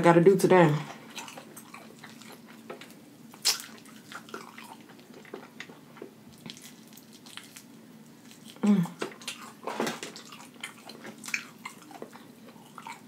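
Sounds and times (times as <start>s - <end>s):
chewing with wet mouth clicks: 1.1s - 13.0s.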